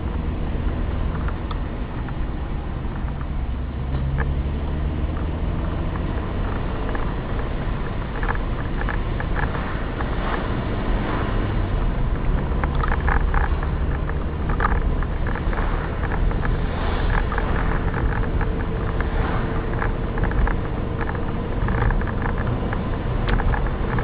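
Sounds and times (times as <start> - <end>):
car engine and road noise: 0.0 - 24.0
light clicks and rattles: 0.8 - 10.5, 11.5 - 24.0.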